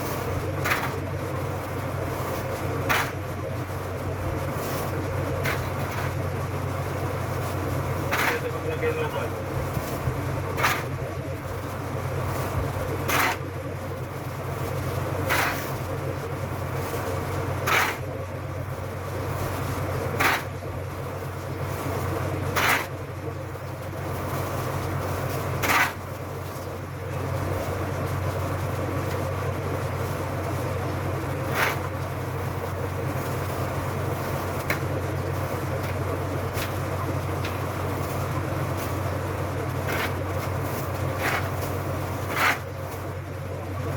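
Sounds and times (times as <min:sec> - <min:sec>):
low machine hum: 0:00.0 - 0:43.9.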